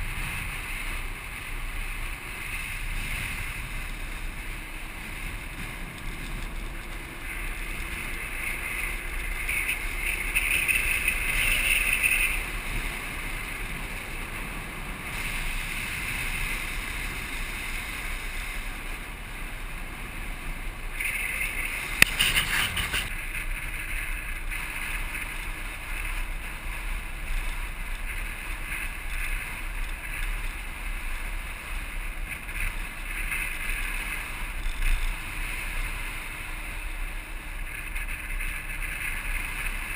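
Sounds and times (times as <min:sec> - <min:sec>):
wheels rolling on hard ground: 0:00.0 - 0:39.9.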